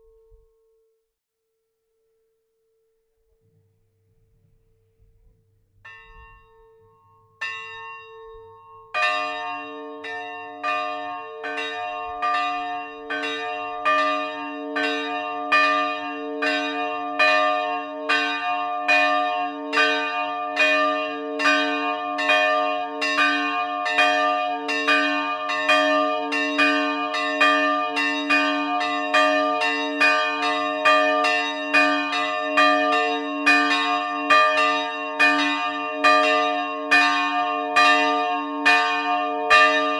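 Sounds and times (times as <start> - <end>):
large church bell ringing: 5.9 - 39.9
small church bell ringing: 5.9 - 39.9.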